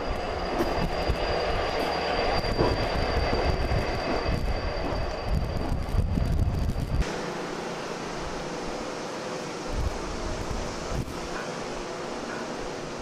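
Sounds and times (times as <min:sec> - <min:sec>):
high whine: 0:00.0 - 0:13.0.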